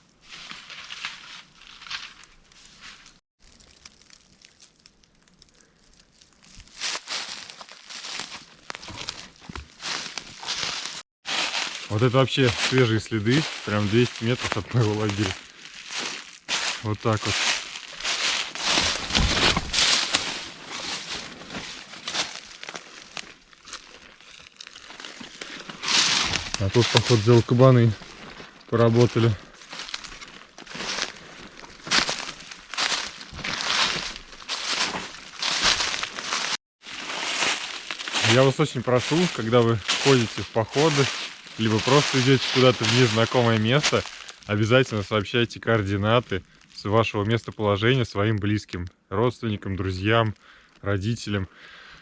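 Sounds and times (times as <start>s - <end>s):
footsteps rustling through leaves: 0.2s - 3.6s, 6.4s - 45.0s.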